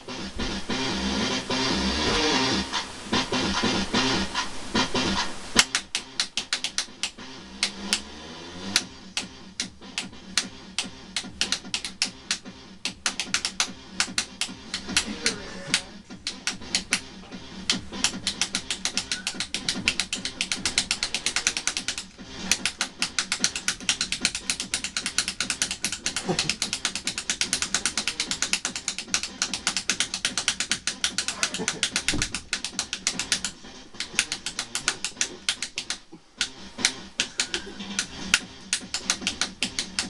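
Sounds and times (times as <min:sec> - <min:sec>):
light switch clicking rapidly: 0:05.6 - 0:08.0, 0:08.6 - 0:15.1, 0:15.7 - 0:40.0.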